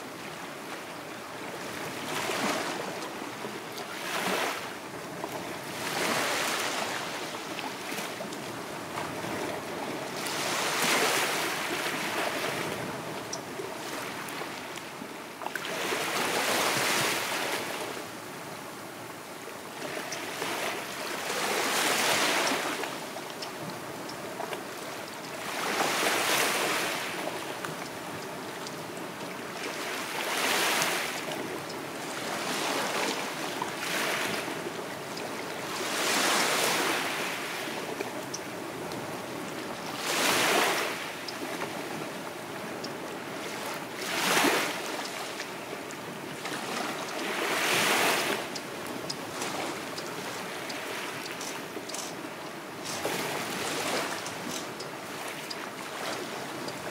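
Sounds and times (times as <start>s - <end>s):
small waves breaking on shore: 0.0s - 56.9s.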